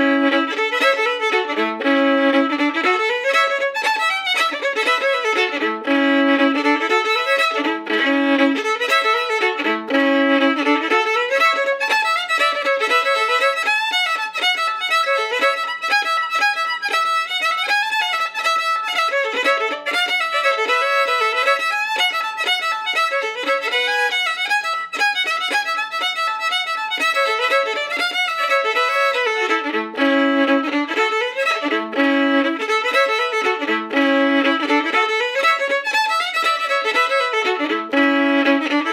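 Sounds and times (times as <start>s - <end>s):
folk fiddle tune: 0.0s - 38.9s.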